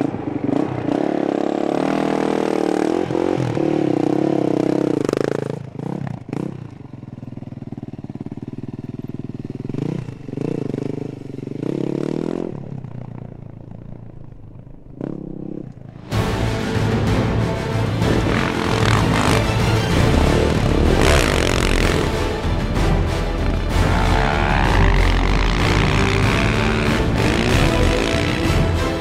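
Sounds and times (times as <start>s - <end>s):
motorcycle engine revving: 0.0s - 16.1s, 17.9s - 22.6s, 23.4s - 29.0s.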